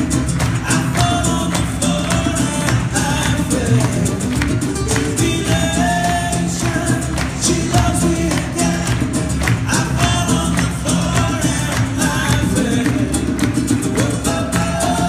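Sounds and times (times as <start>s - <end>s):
drum beat: 0.0s - 15.0s
group singing: 0.0s - 15.0s
strummed nylon-string guitars: 0.0s - 15.0s.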